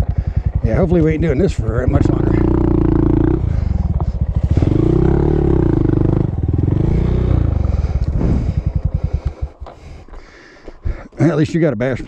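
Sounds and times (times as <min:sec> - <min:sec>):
motorcycle engine revving and idling: 0:00.0 - 0:11.4.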